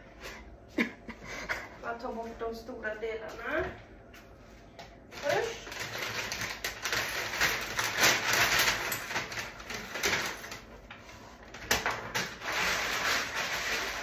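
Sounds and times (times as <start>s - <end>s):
objects rustling and clattering: 0.2s - 14.0s.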